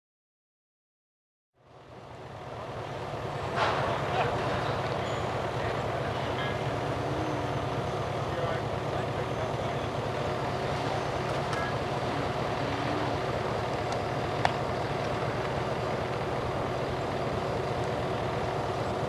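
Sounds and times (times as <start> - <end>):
diesel engine idling: 1.6 - 19.0.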